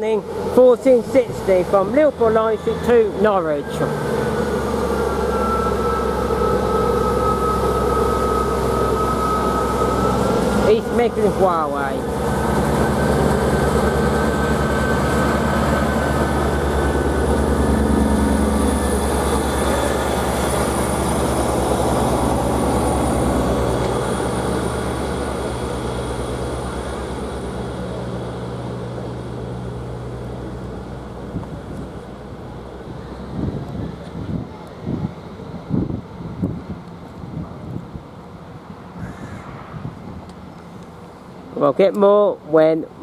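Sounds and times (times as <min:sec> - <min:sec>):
diesel train engine running: 0:00.0 - 0:39.1.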